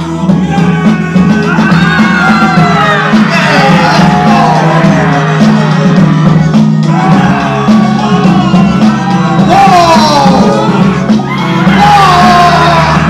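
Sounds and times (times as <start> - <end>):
bass-heavy music over speakers: 0.0 - 13.0.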